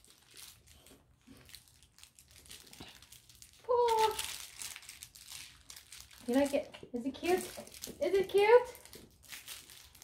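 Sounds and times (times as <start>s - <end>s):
toy rustling and crinkling: 0.0s - 10.0s.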